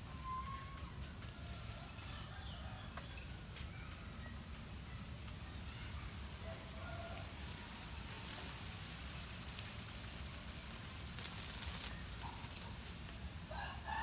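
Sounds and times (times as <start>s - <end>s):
low outdoor air rumble: 0.0s - 14.0s.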